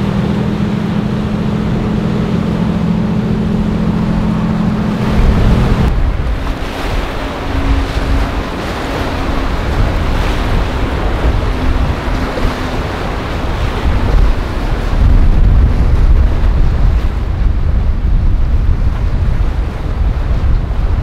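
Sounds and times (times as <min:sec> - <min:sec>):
choppy water: 0:00.0 - 0:21.0
faint boat engine drone: 0:00.0 - 0:21.0
wind buffeting microphone: 0:00.0 - 0:21.0.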